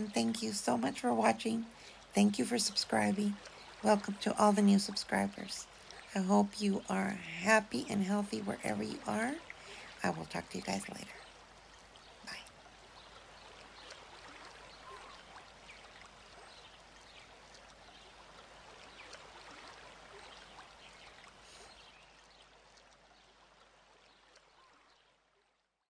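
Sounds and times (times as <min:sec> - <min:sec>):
trickle of running water: 0:00.0 - 0:25.8.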